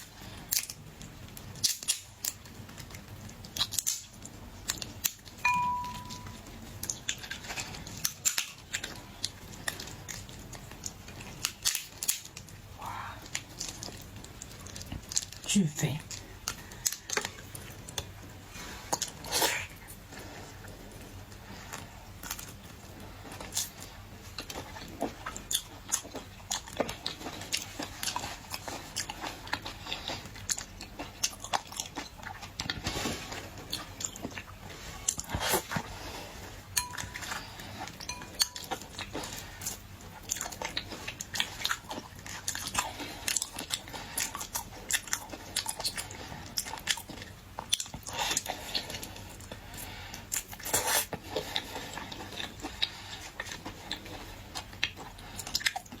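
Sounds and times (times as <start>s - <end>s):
shellfish crunching and chewing: 0.0s - 56.0s.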